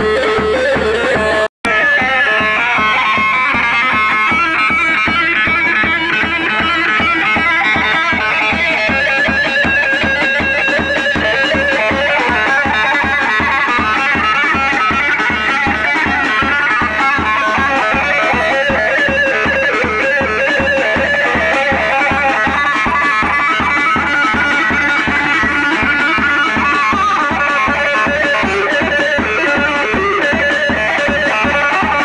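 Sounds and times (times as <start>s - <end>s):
high melody line: 0.0s - 32.0s
steady drum beat: 0.0s - 32.0s.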